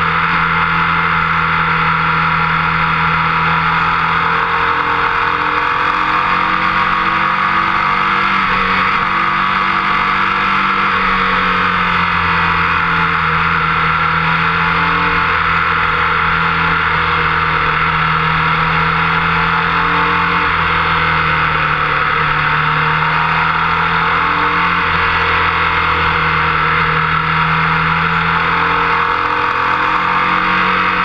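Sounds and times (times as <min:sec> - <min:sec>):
motorcycle engine at speed: 0:00.0 - 0:31.0.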